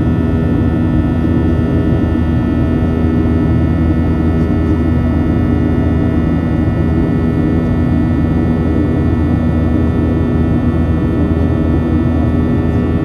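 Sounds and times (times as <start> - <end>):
jet engine drone in cabin: 0.0 - 13.0
steady humming tones: 0.0 - 13.0.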